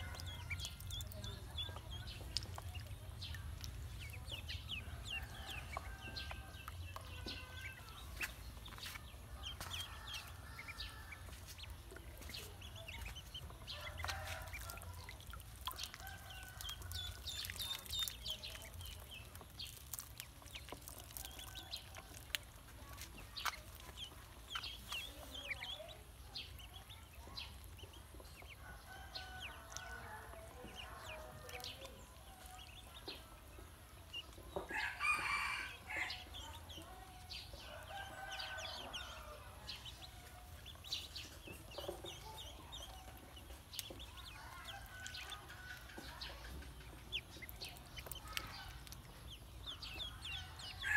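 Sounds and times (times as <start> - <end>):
ducklings splashing in water: 0.0 - 50.9
fowl clucking and peeping: 0.0 - 50.9.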